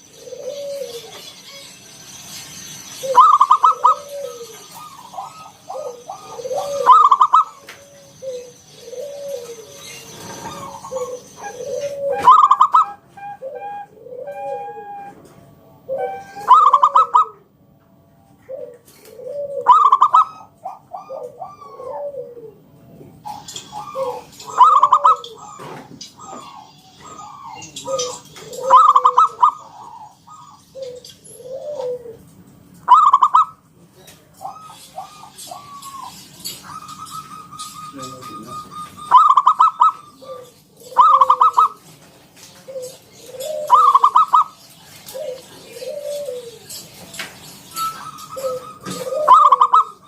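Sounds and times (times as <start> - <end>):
dove cooing: 0.0 - 1.8, 3.0 - 17.5, 18.4 - 50.0.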